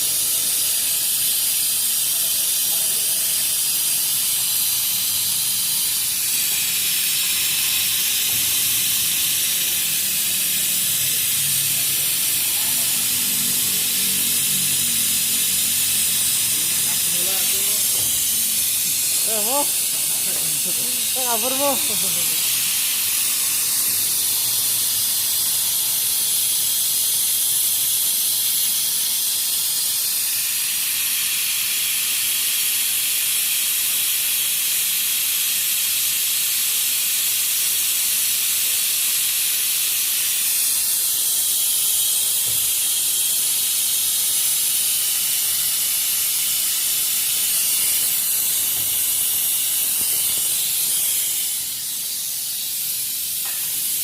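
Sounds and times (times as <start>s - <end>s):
high-pressure jet hissing: 0.0s - 54.0s.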